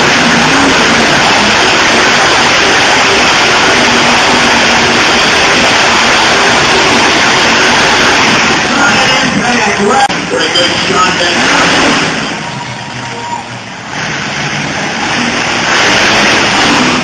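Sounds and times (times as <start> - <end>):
monster truck engine running: 0.0 - 17.0.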